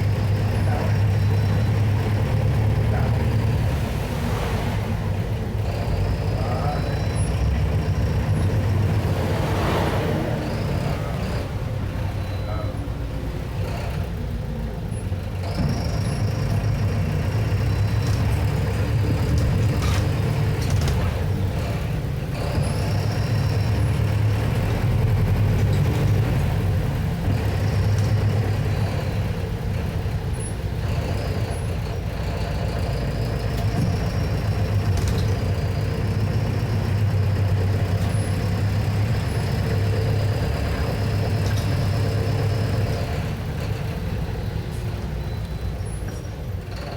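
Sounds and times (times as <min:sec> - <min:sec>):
diesel bus engine running: 0:00.0 - 0:46.9.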